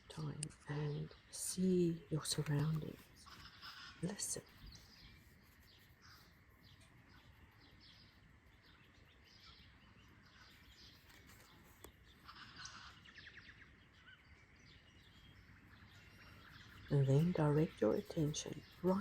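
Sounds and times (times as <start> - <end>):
faint birds chirping: 0.0 - 19.0
rapid bird trill: 0.0 - 19.0.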